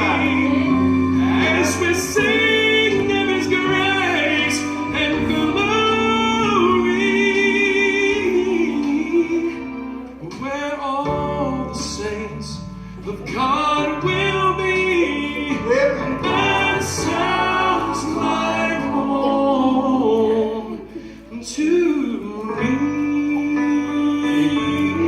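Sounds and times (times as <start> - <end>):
instrumental accompaniment: 0.0 - 25.0
person singing gospel: 0.0 - 25.0.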